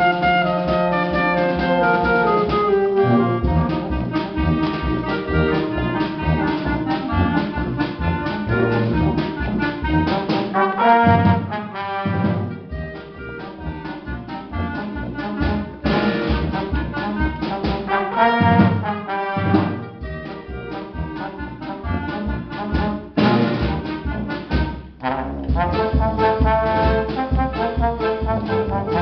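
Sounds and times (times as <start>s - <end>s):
steady drum beat: 0.0s - 29.0s
wind band brass and saxophones: 0.0s - 29.0s.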